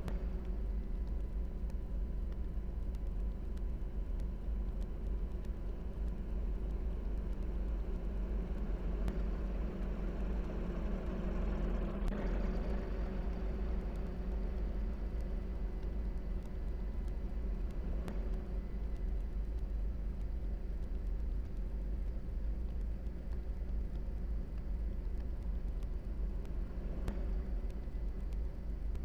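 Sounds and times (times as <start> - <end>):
faint ticks: 0.0 - 29.0.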